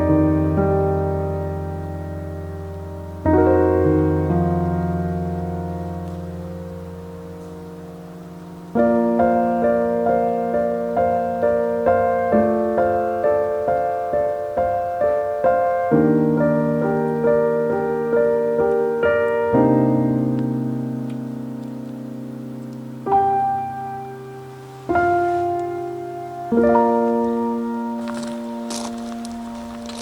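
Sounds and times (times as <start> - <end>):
soft piano music: 0.0 - 30.0.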